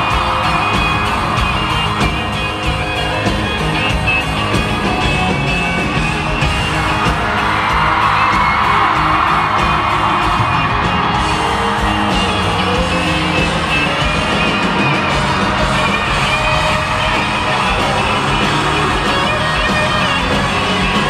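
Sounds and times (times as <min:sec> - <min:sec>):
electric guitar: 0:00.0 - 0:21.0
live country-rock band: 0:00.0 - 0:21.0
steady drum beat: 0:00.0 - 0:21.0.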